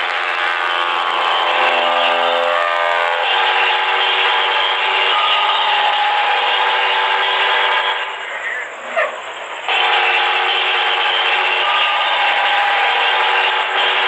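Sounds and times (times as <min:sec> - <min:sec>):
multi-tone vehicle horn: 0:00.0 - 0:08.8, 0:09.5 - 0:14.0.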